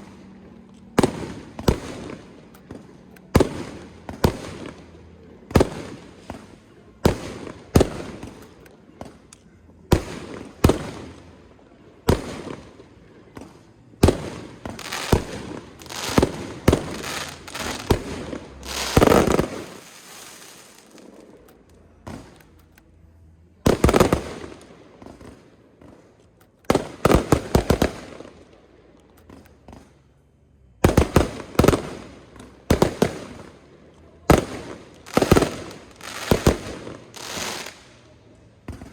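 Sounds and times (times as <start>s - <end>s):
fireworks bursting: 0.0s - 22.6s, 23.5s - 28.6s, 30.8s - 38.9s.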